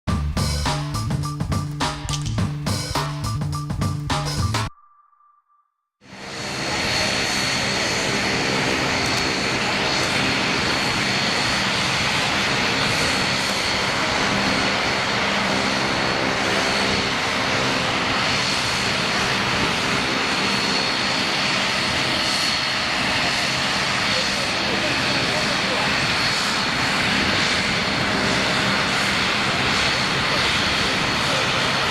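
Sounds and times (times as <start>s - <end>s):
turboprop engines droning: 6.1s - 31.9s.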